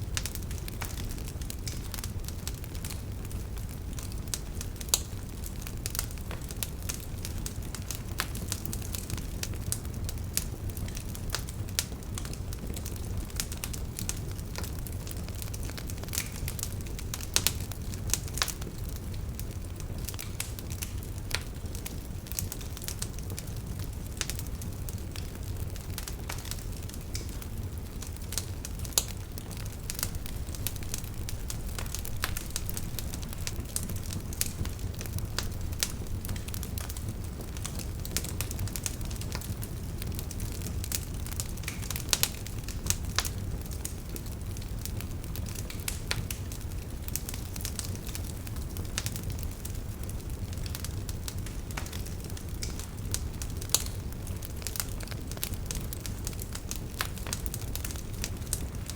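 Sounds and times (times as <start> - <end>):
campfire flames rumbling: 0.0 - 58.9
crackles and pops of burning wood: 0.0 - 58.9.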